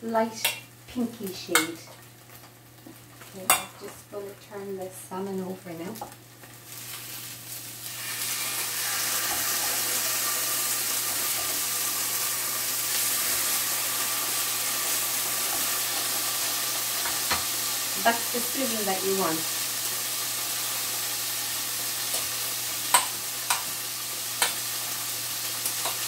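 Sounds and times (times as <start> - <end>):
fish sizzling in frying pan: 1.0 - 4.0, 5.6 - 26.0.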